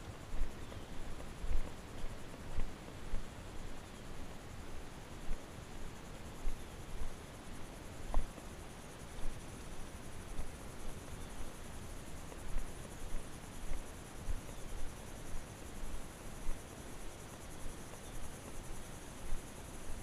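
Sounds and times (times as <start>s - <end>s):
horse hooves on dirt trail: 0.0s - 20.0s
insects buzzing: 0.0s - 20.0s.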